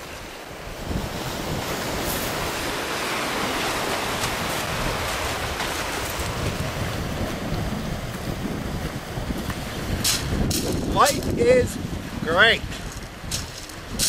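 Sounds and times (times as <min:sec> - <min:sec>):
ocean waves washing: 0:00.0 - 0:14.0
wind buffeting microphone: 0:00.0 - 0:14.0.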